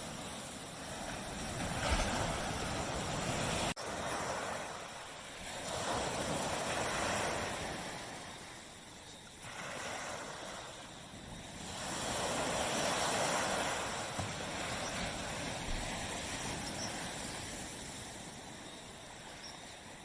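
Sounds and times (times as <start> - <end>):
small waves breaking on beach: 0.0 - 20.0.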